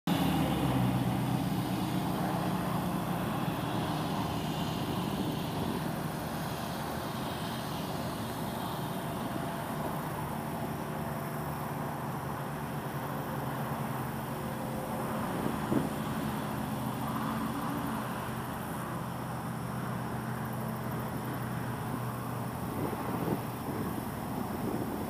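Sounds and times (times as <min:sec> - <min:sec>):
diesel engine idling: 0:00.1 - 0:25.0.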